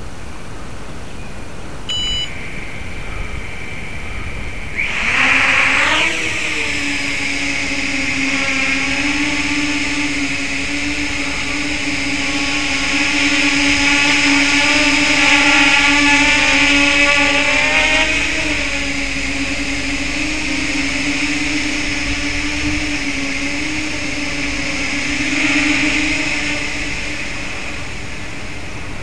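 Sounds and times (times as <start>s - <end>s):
quadcopter motors buzzing: 1.9s - 29.0s.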